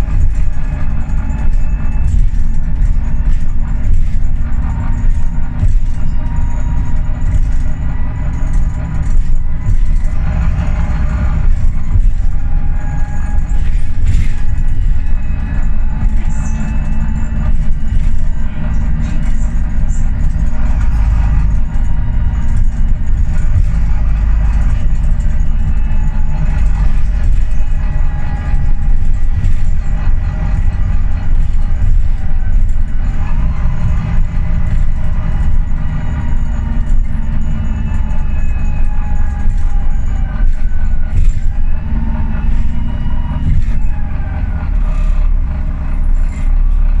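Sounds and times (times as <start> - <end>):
bus engine rumble: 0.0 - 47.0
faint whining tones: 0.0 - 47.0
road noise: 0.0 - 47.0.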